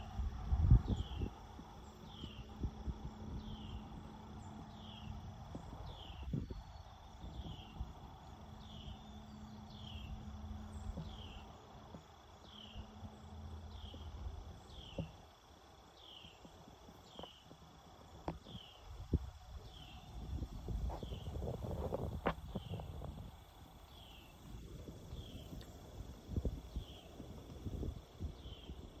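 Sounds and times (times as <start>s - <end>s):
faint high insect drone: 0.0s - 29.0s.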